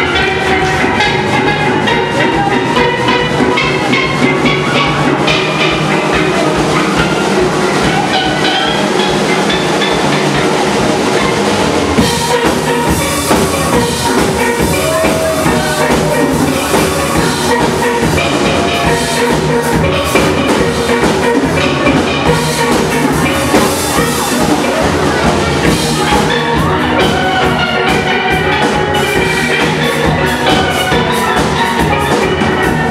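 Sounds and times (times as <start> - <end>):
cymbals: 0.0 - 32.9
drum kit beat: 0.0 - 32.9
steel pans playing melody: 0.0 - 32.9.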